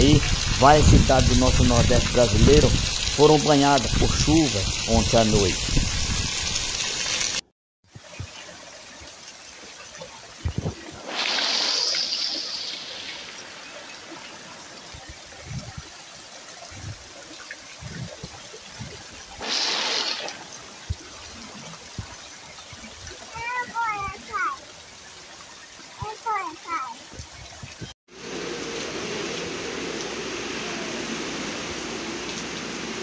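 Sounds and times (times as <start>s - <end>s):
heavy rain pouring: 0.0s - 7.4s, 10.6s - 33.0s.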